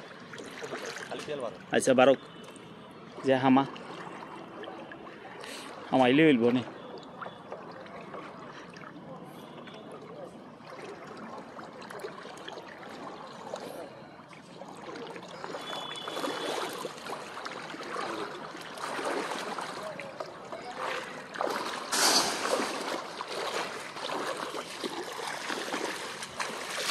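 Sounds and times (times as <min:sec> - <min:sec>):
feet wading in water: 0:00.0 - 0:26.9
floodwater splashing and sloshing: 0:00.0 - 0:26.9.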